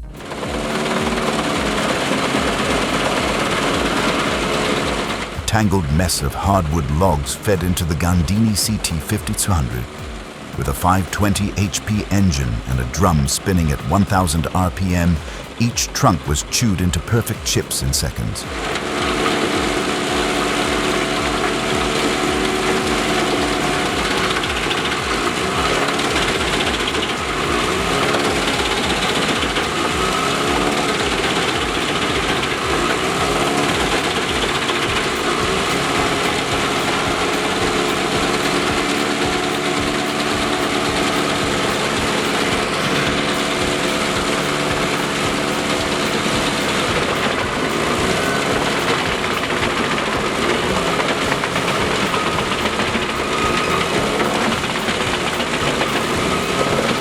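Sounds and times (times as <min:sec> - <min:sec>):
wood chipper diesel engine: 0:00.0 - 0:11.3, 0:18.5 - 0:57.0.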